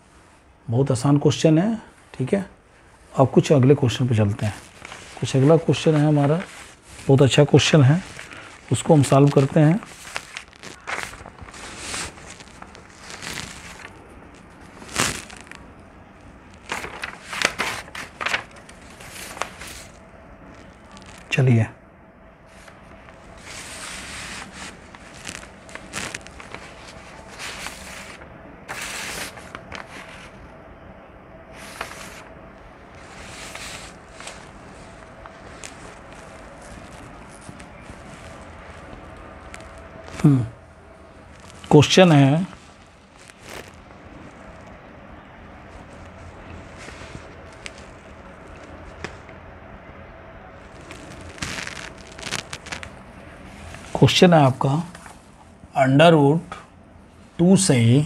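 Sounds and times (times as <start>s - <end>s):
low room hum: 0.0s - 58.0s
paper rustling: 3.3s - 21.4s, 22.5s - 30.5s, 31.5s - 40.4s, 41.0s - 44.8s, 45.4s - 49.4s, 50.6s - 55.3s.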